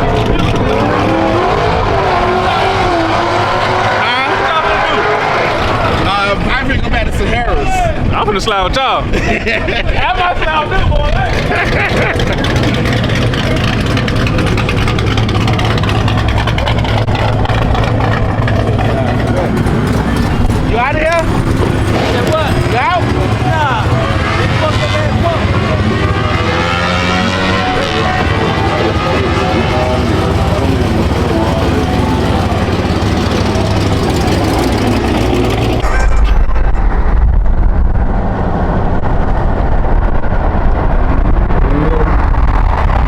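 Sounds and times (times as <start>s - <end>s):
car engine rumbling: 0.0s - 43.0s.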